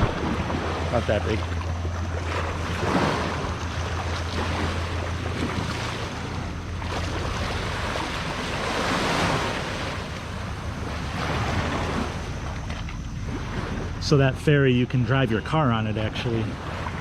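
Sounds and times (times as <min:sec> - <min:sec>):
sea waves washing onto shore: 0:00.0 - 0:15.0
wind buffeting microphone: 0:00.0 - 0:17.0.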